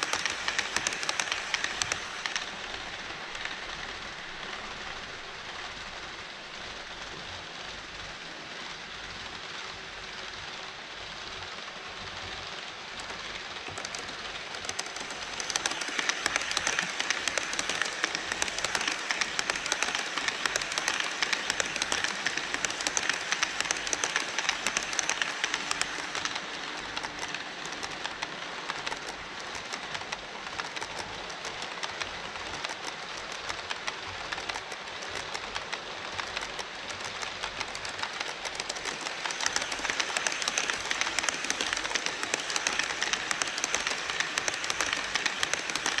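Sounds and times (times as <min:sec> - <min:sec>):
model train wheels clicking: 0:00.0 - 0:46.0.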